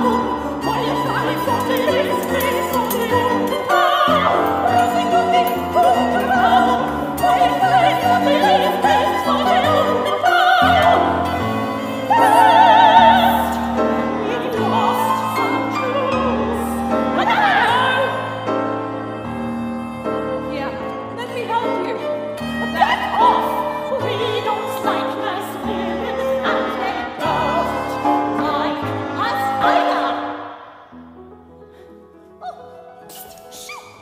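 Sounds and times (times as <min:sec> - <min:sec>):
opera singing voice: 0:00.0 - 0:30.8
violin: 0:00.0 - 0:30.8
piano: 0:00.0 - 0:34.0.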